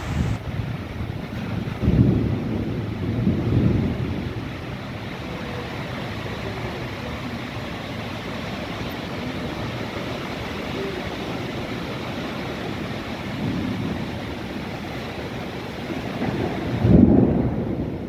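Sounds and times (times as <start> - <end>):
gusting wind: 0.0 - 18.0
heavy rain pouring: 0.0 - 18.0.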